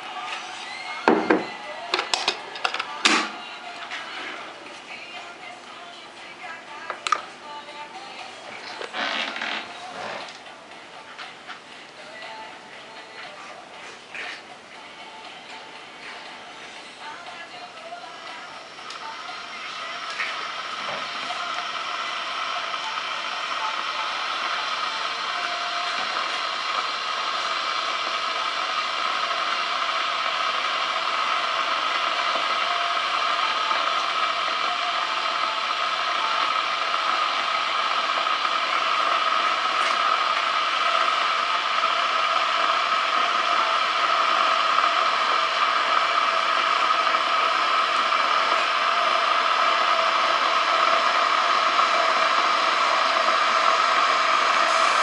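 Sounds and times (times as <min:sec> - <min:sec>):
kettle heating water: 0:00.0 - 0:55.0.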